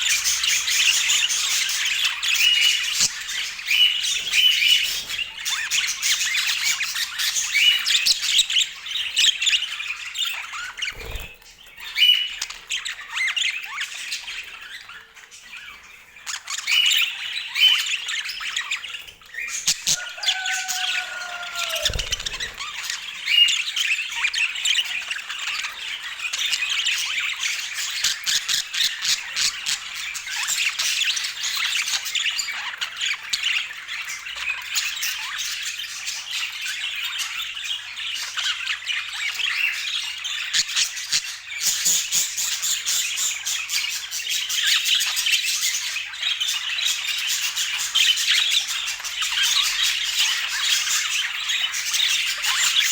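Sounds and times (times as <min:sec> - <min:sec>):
budgerigars chattering and warbling: 0:00.0 - 0:52.9.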